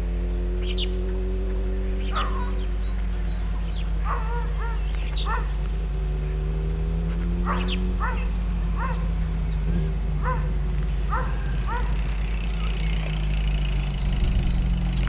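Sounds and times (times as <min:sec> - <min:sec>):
birds chirping and whistling: 0:00.2 - 0:15.0.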